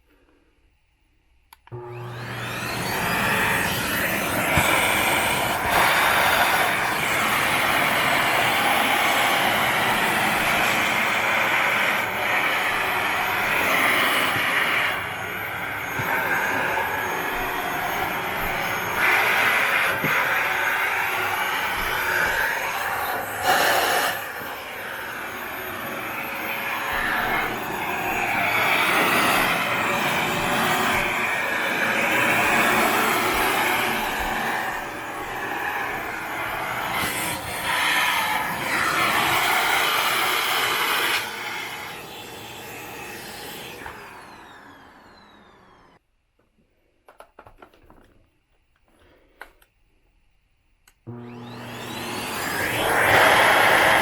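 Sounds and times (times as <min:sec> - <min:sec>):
vacuum cleaner suction: 0:01.6 - 0:46.0, 0:51.0 - 0:54.0.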